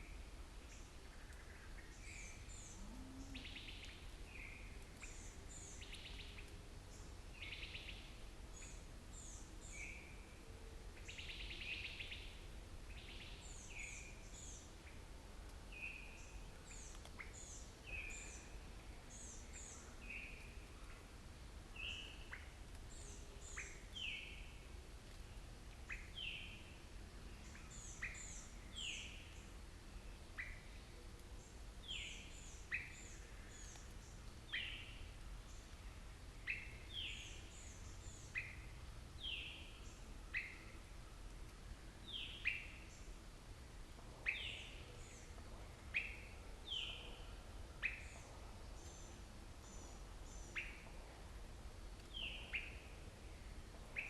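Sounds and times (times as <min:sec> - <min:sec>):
songbirds calling and singing: 0:00.0 - 0:43.2, 0:43.9 - 0:51.2, 0:52.0 - 0:54.0
faint low rumble: 0:00.0 - 0:54.0.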